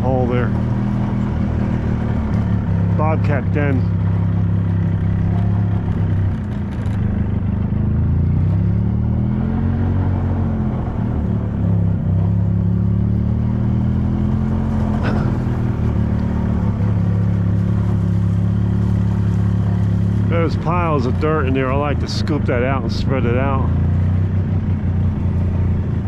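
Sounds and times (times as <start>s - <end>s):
golf cart engine running: 0.0s - 26.0s.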